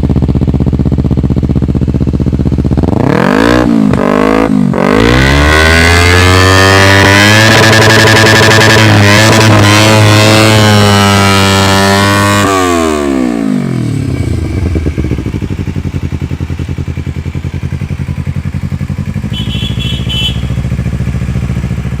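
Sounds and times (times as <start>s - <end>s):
motorcycle engine revving then idling: 0.0s - 22.0s.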